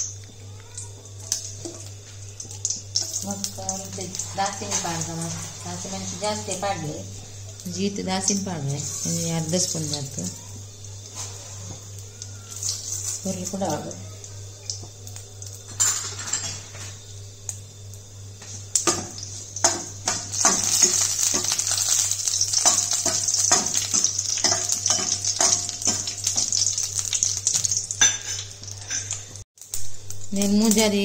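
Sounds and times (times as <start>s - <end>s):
seeds sizzling in hot oil: 0.0s - 31.0s.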